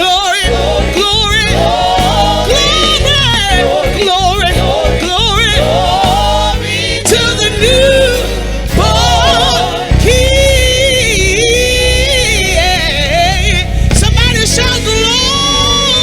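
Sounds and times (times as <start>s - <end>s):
instrumental backing with bass: 0.0s - 16.0s
person singing: 0.0s - 16.0s.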